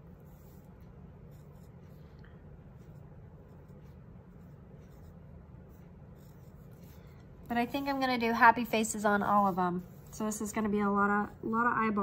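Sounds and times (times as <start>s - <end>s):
low steady hum: 0.0s - 12.0s
pencil scratching on paper: 0.0s - 12.0s.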